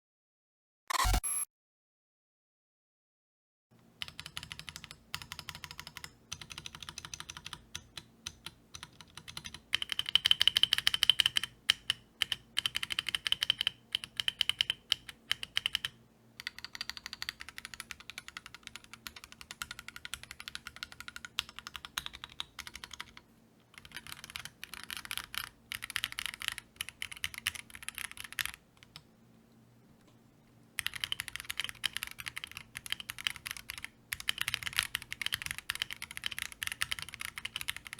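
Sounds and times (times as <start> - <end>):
typing on mechanical keyboard: 4.0 - 29.1, 30.8 - 37.9.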